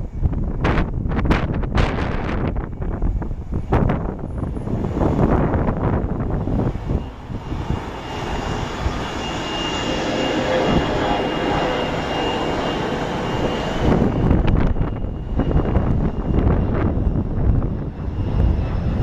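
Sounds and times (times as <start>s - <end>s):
jet taking off: 0.0s - 19.0s
wind buffeting microphone: 0.0s - 19.0s.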